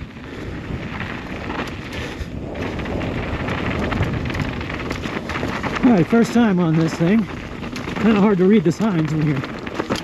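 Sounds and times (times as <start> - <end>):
bike clicks and rattles: 0.0 - 10.0
bike tyres rushing on dirt: 0.0 - 10.0
wind noise on microphone: 0.0 - 10.0.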